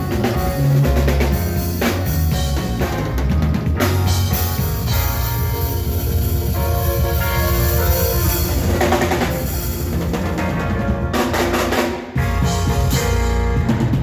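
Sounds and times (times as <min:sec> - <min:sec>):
held melodic notes: 0:00.0 - 0:13.9
band playing makossa music: 0:00.0 - 0:14.0
drum kit with rolls: 0:00.0 - 0:14.0.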